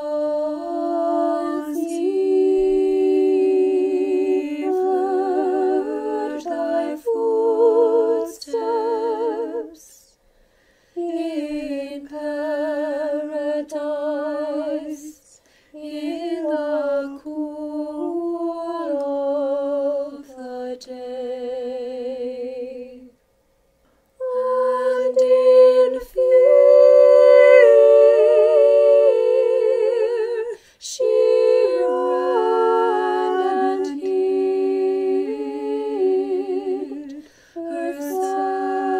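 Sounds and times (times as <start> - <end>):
choir chanting a cappella: 0.0 - 10.2, 11.0 - 23.2, 24.2 - 38.9.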